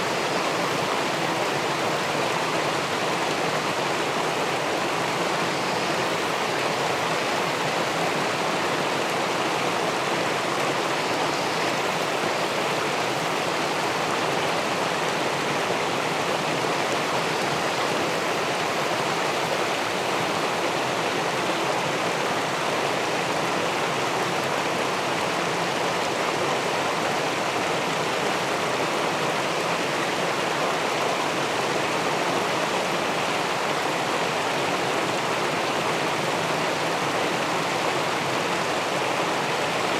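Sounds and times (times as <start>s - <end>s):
river water rushing over weir: 0.0s - 39.9s.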